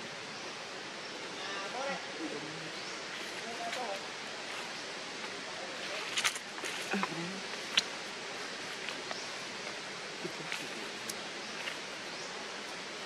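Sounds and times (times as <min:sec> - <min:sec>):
forest background hiss: 0:00.0 - 0:13.0.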